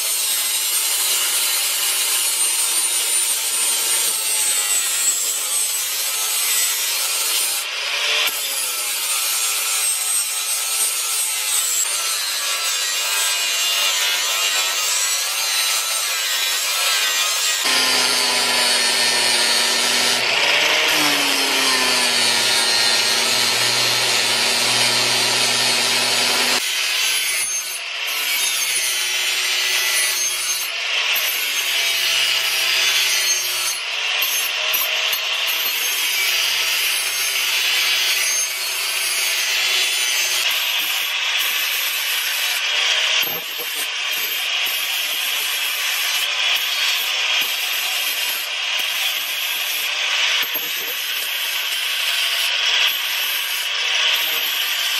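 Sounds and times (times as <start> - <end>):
angle grinder grinding steel: 0.0 - 28.8, 38.9 - 54.9.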